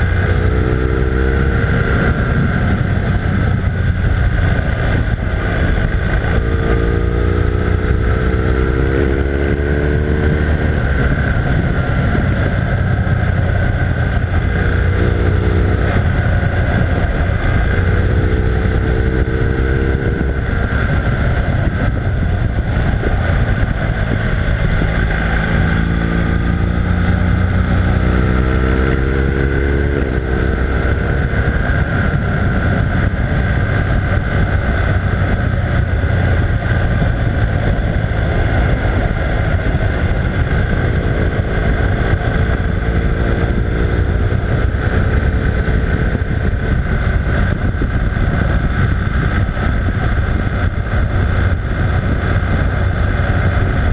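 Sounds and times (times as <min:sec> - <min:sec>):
motorcycle engine accelerating: 0:00.0 - 0:53.9
wind rushing: 0:00.0 - 0:53.9.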